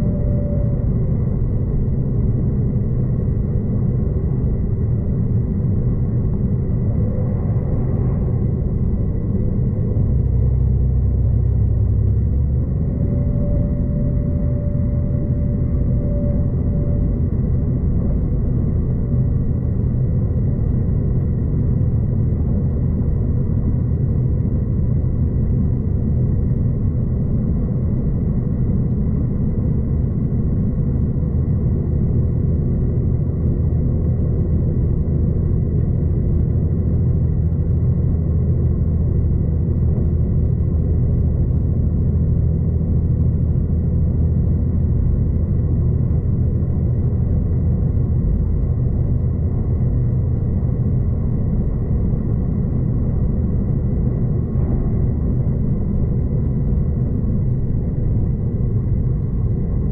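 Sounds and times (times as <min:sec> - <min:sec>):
faint high whine: 0:00.0 - 0:59.9
train low rumble: 0:00.0 - 0:59.9.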